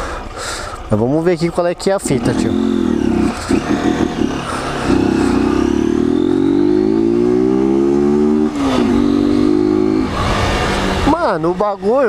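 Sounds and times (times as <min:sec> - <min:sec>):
motorcycle engine accelerating: 0:02.0 - 0:12.0.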